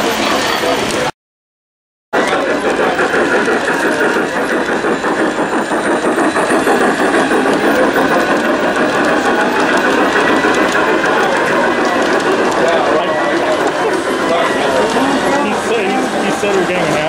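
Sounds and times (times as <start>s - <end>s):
model train clattering on track: 2.2s - 17.0s.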